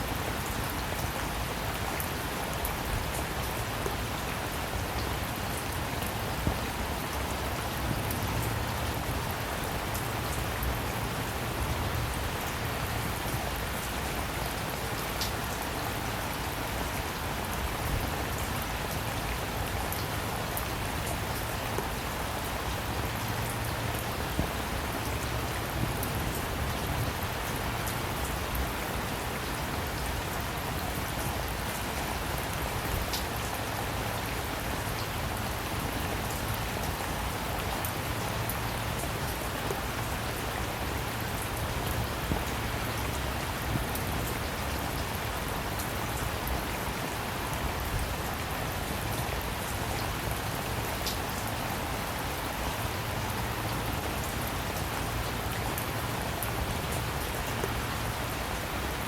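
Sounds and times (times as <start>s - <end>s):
raindrops ticking on a surface: 0.0s - 59.0s
steady rain falling: 0.0s - 59.0s.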